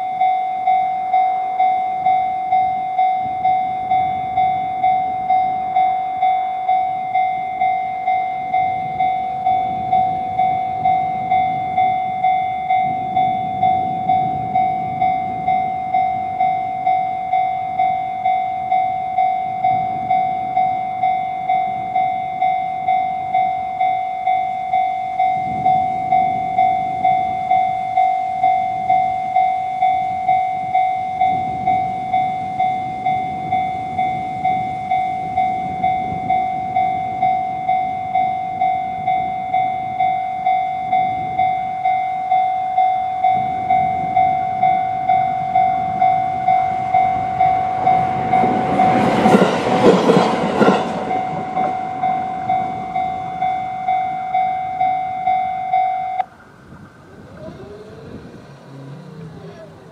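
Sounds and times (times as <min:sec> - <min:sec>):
level crossing bell ringing: 0:00.0 - 0:49.4, 0:50.1 - 0:56.3
train passing over rails: 0:00.0 - 0:59.9.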